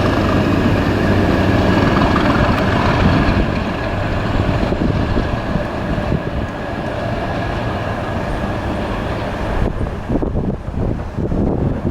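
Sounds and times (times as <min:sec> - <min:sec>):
diesel train rolling past: 0:00.0 - 0:11.9
rail and wheel noise: 0:00.0 - 0:11.9
wind buffeting microphone: 0:00.0 - 0:11.9.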